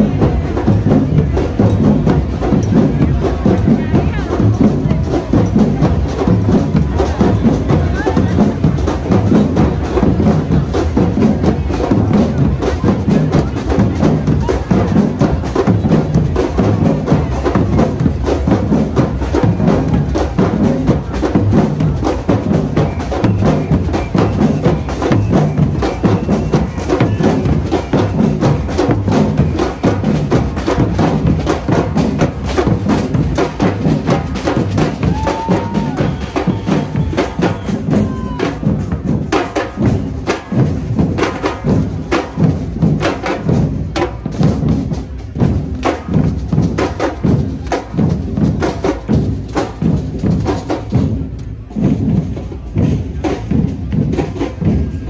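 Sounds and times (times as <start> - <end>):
drum-heavy music: 0.0 - 55.0.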